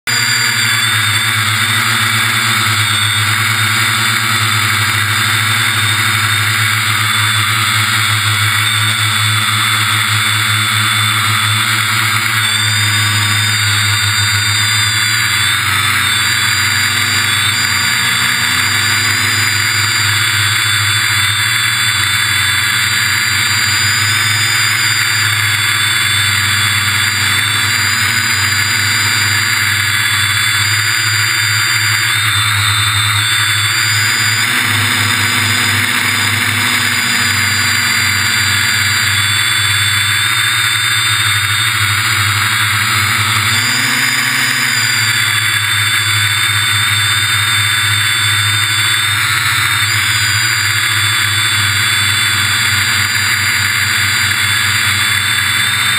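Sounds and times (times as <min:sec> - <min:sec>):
drone motors whining: 0:00.0 - 0:55.9.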